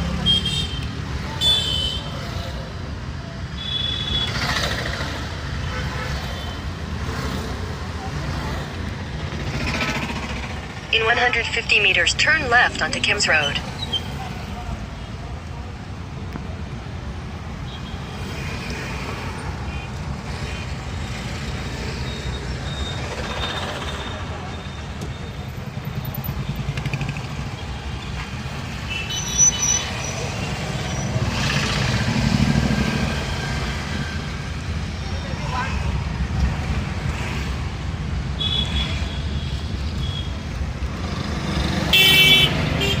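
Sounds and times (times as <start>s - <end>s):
vehicle road and engine rumble: 0.0s - 43.0s.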